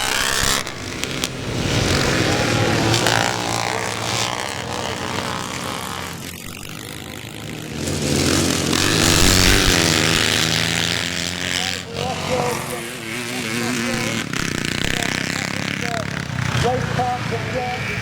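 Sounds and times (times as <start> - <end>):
motocross bikes revving past: 0.0 - 18.0.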